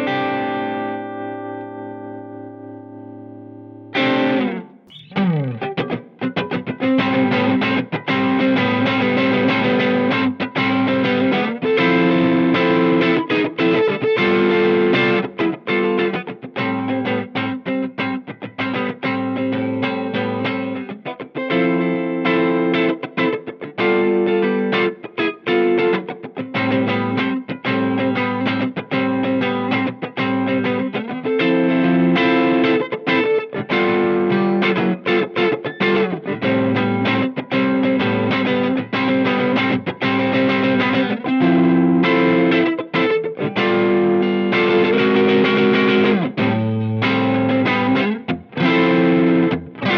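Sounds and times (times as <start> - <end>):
overdriven electric guitar: 0.0 - 49.9.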